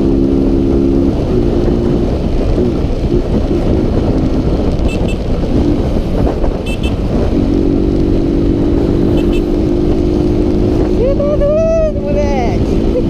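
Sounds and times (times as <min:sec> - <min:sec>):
motorcycle engine cruising: 0:00.0 - 0:13.0
wind rush on microphone: 0:00.0 - 0:13.0.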